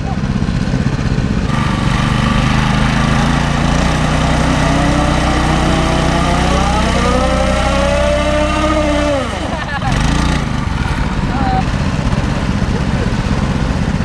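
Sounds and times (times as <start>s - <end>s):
small motorbike engine revving: 0.0s - 14.0s.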